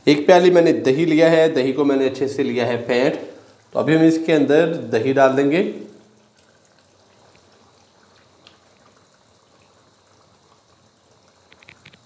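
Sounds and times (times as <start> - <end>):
curry simmering: 0.0 - 12.0.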